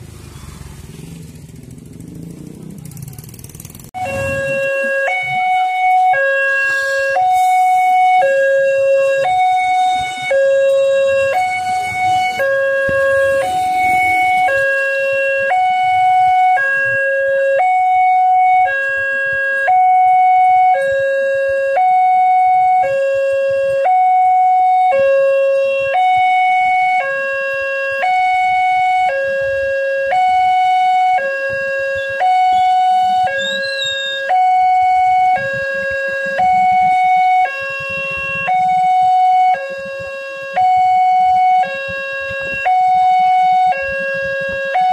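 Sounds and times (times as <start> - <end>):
level crossing two-tone alarm: 4.0 - 44.9.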